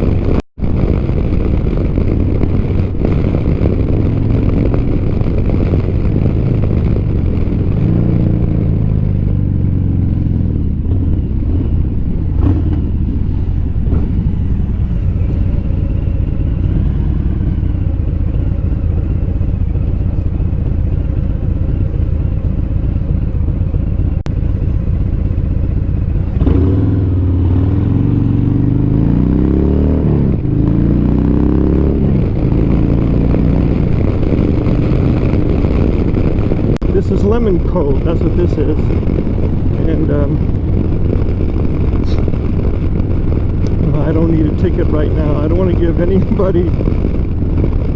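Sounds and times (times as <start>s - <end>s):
motorcycle engine running: 0.0s - 47.9s
wind rumble on microphone: 0.0s - 47.9s.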